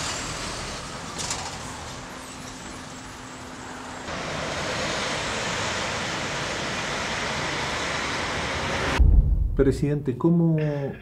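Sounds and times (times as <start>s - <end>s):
cars driving past: 0.0s - 9.0s.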